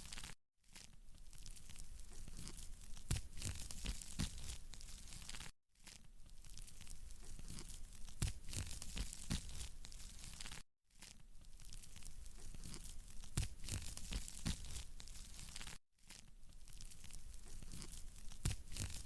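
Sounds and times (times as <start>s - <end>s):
wood fire crackling: 1.1s - 19.0s.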